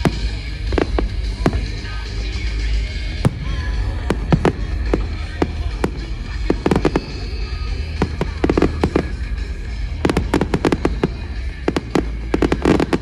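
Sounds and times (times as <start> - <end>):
firework bangs and crackles: 0.0 - 13.0
steady low rumble: 0.0 - 13.0.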